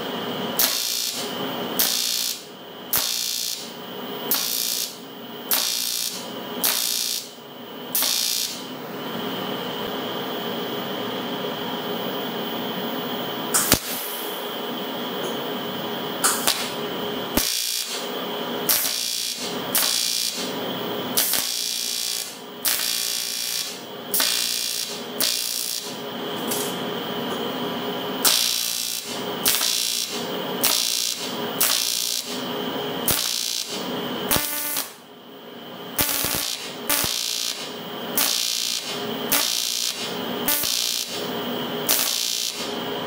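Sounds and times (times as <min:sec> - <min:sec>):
welding arc buzzing: 0:00.0 - 0:09.5, 0:13.5 - 0:14.2, 0:16.1 - 0:35.1, 0:35.7 - 0:43.0
welding machine hum: 0:00.0 - 0:10.7, 0:12.6 - 0:14.5, 0:15.4 - 0:43.0.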